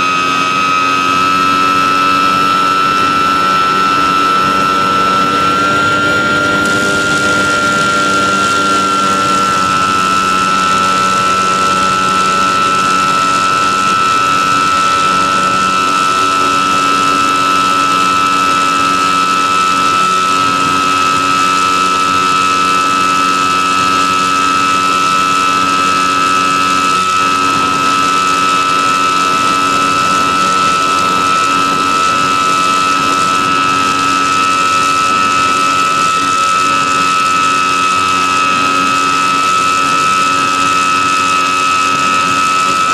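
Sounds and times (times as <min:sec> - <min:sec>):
electric motor and propeller whine: 0:00.0 - 0:42.9.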